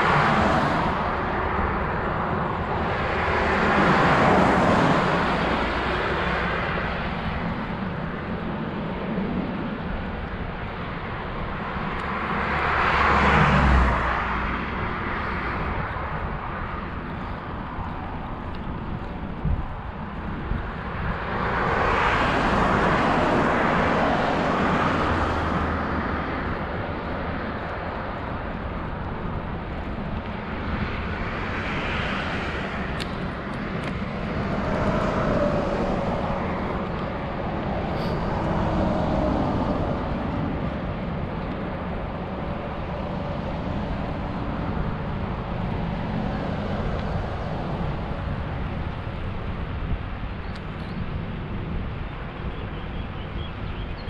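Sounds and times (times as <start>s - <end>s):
motor vehicles passing: 0.0s - 54.0s
wind and road rumble: 0.0s - 54.0s.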